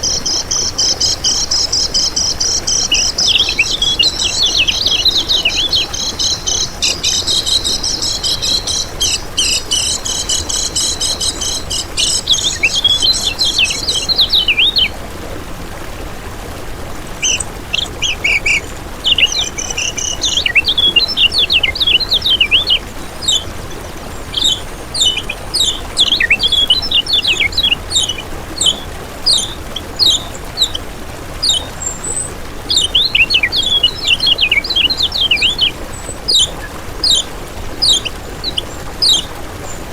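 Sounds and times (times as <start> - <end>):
bird chirped phrases: 0.0 - 15.0, 17.2 - 30.8, 31.4 - 39.9
bird twittering: 0.0 - 15.0, 17.0 - 39.9.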